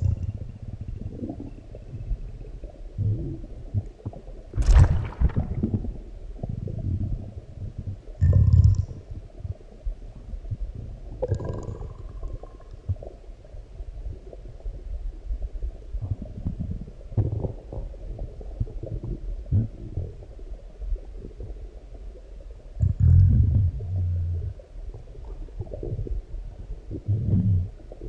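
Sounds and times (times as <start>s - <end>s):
stomach growling and gurgling: 0.0s - 28.0s.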